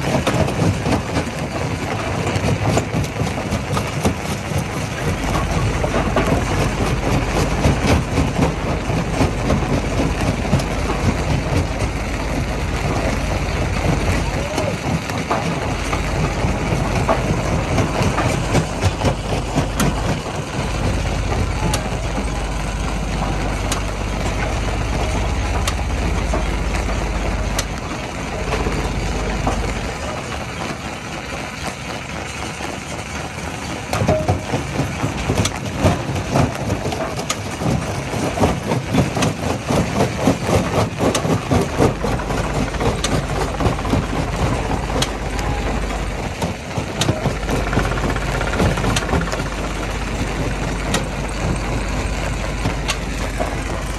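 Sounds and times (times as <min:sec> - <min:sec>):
diesel engine drone: 0:00.0 - 0:53.9.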